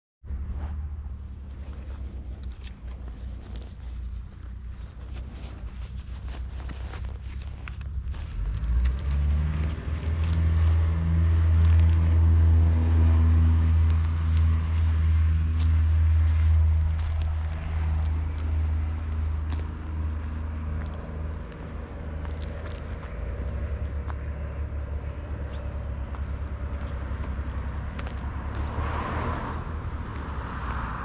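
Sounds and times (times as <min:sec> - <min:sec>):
motorcycle engine running: 0:00.8 - 0:28.7.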